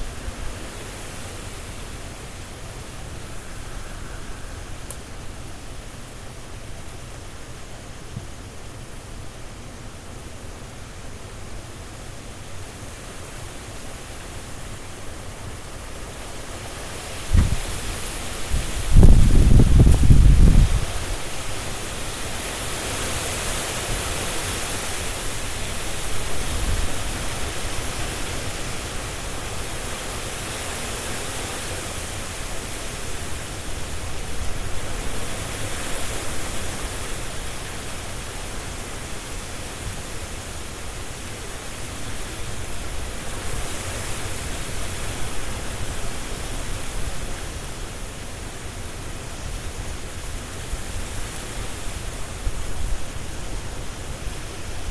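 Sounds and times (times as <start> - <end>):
gusty wind through trees: 0.0 - 54.9.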